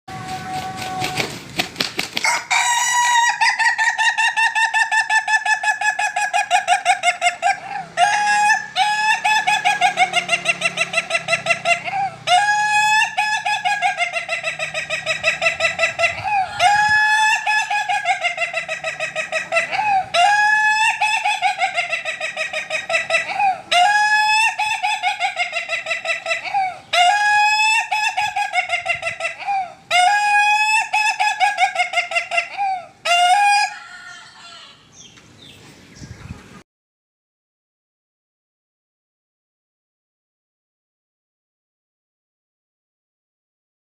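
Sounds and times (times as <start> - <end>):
chicken calling: 0.1 - 36.6.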